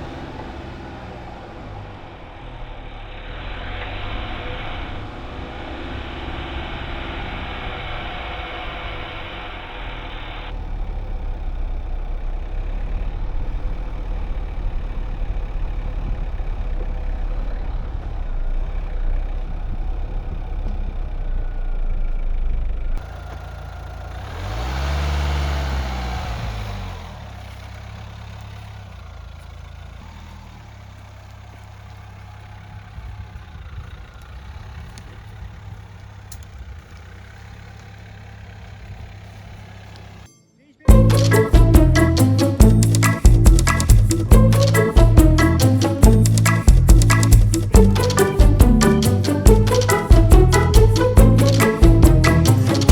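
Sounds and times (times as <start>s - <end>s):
diesel engine running: 0.0s - 40.3s, 40.9s - 52.9s.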